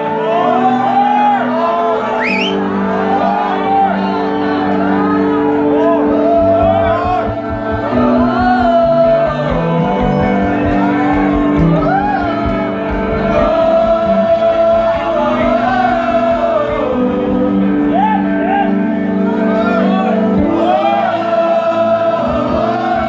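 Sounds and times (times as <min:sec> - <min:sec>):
electric guitars and bass: 0:00.0 - 0:23.0
person singing: 0:00.0 - 0:23.0.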